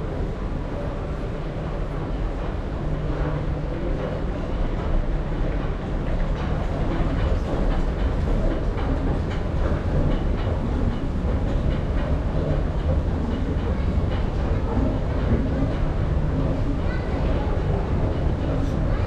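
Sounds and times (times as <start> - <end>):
clatter of escalator steps: 0.0 - 19.0
escalator mechanical rumble: 0.0 - 19.0.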